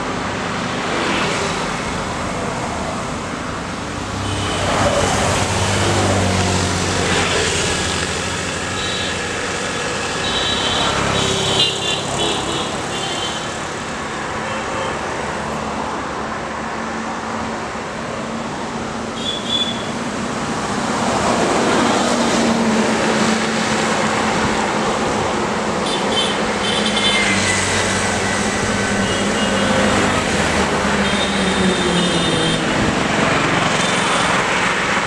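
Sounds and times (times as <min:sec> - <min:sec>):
motorbikes passing: 0:00.0 - 0:14.4, 0:15.0 - 0:35.0
road traffic passing: 0:00.0 - 0:35.0.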